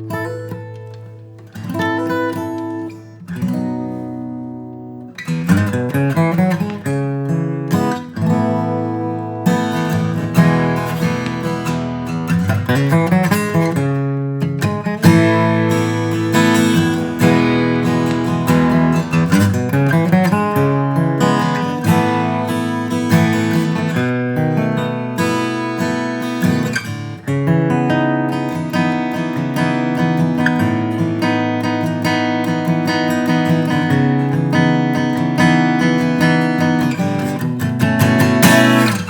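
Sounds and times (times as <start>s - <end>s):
acoustic guitar playing: 0.0s - 39.0s.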